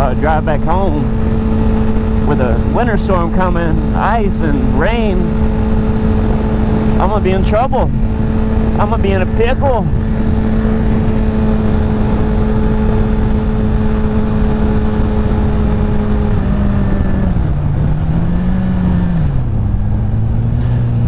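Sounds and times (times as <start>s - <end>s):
motorcycle engine cruising: 0.0s - 21.0s
wind rush: 0.0s - 21.0s.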